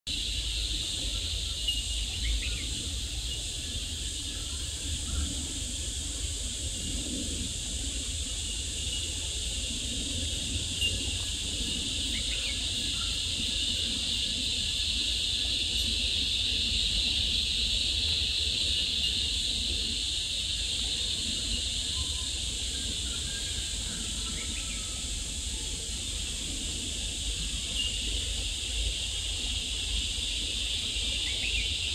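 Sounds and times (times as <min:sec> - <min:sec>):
insects buzzing in chorus: 0:00.1 - 0:31.9.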